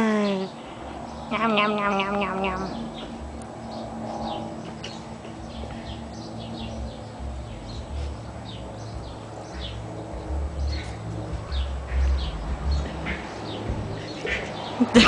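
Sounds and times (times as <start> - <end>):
small birds chirping: 0.2 - 15.0
low uneven rumble: 0.6 - 15.0.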